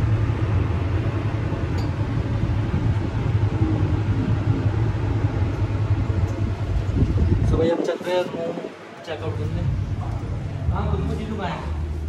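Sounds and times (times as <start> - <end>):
cabin fan: 0.0 - 12.0
lift car humming and rumbling: 0.0 - 12.0.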